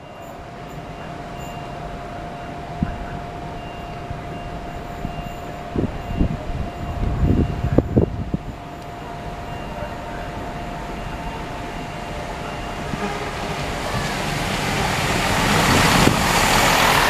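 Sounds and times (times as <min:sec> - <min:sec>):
diesel train rumble: 0:00.0 - 0:17.0
high train whine: 0:00.0 - 0:17.0.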